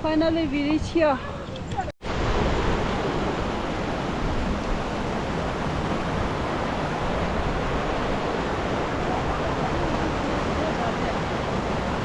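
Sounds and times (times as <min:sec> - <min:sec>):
rushing water: 0:02.0 - 0:12.0.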